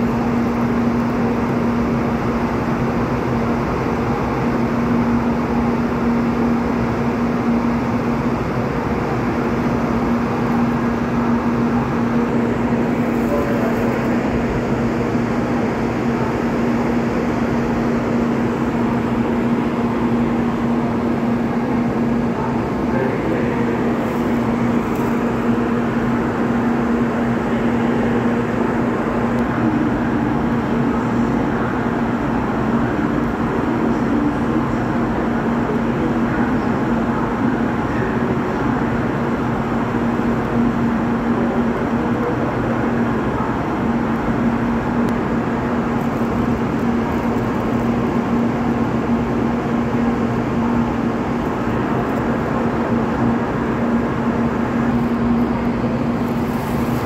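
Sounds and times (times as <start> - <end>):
train equipment hum: 0.0 - 57.0.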